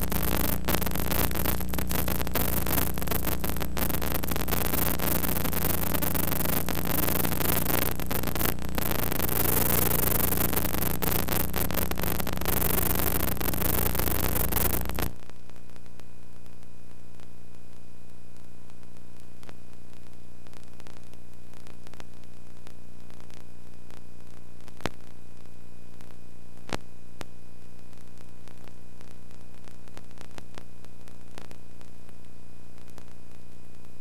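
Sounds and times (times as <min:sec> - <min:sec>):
electrical hum: 0:00.0 - 0:34.0
loud static hiss: 0:00.0 - 0:34.0.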